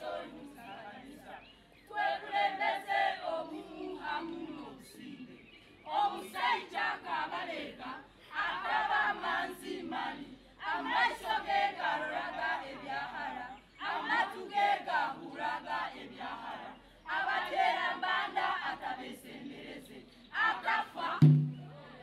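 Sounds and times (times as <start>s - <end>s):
group singing and chanting: 0.0s - 22.0s.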